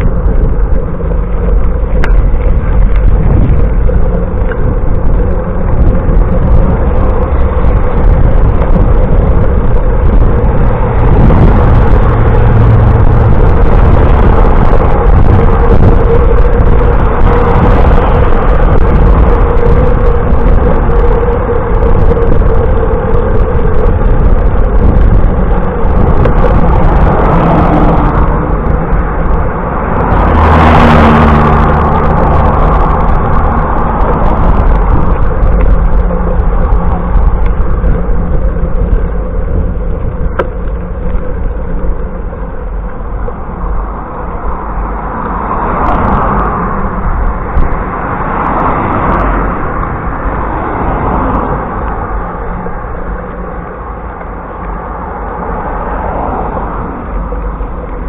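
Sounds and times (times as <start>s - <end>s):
motor vehicle passing: 0.0s - 58.0s
wind and road noise: 0.0s - 58.0s.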